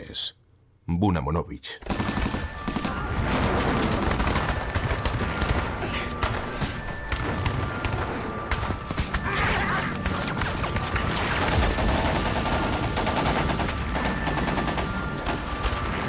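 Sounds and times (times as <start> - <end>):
rapid small-arms gunfire: 1.8 - 15.5.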